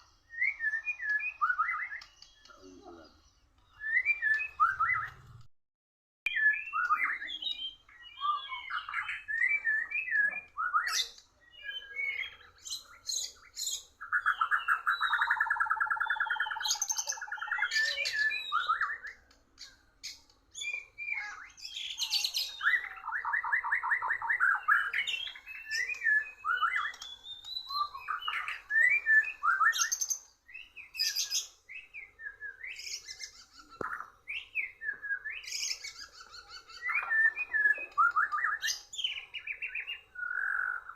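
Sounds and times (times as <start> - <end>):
songbird whistles and trills: 0.0 - 5.5, 6.3 - 40.9.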